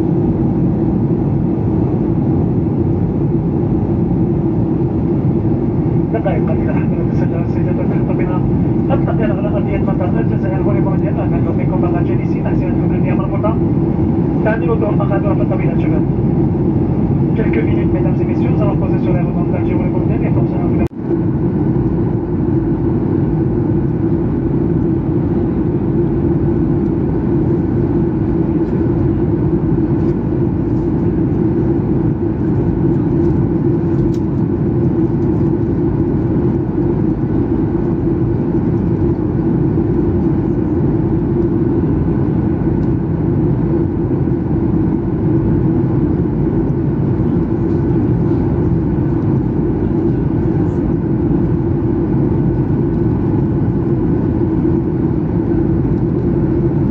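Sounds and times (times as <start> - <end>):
airplane cabin drone: 0.0 - 56.9.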